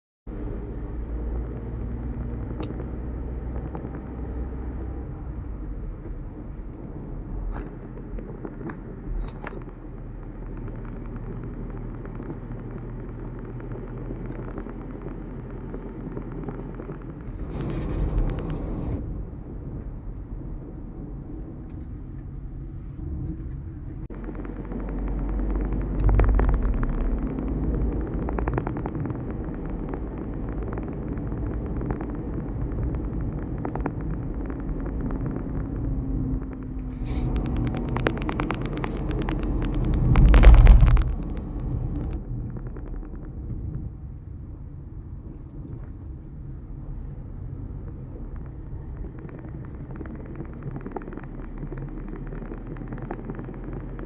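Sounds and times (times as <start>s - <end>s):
road vehicle rumble: 0.3s - 54.0s.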